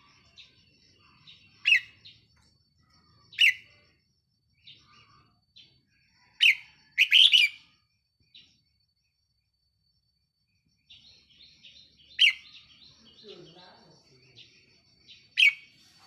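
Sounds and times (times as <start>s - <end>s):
soft bird chirps: 0.0s - 16.0s.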